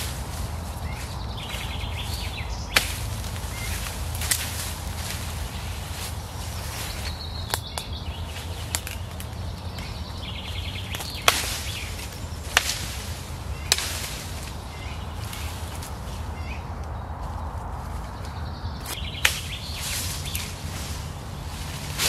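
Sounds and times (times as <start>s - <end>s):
hatchet chopping branches: 0.0s - 17.0s, 18.2s - 22.0s.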